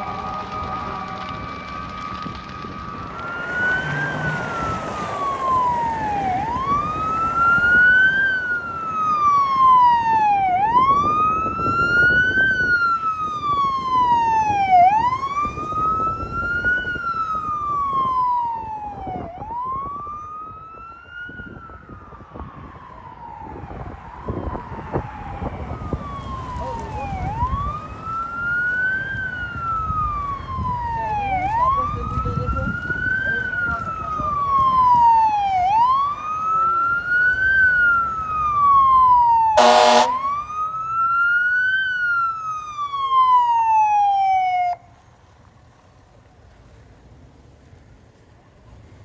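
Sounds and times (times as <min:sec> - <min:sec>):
truck rumble: 0:00.0 - 0:19.5, 0:23.6 - 0:49.0
fire engine siren wailing: 0:00.0 - 0:46.4.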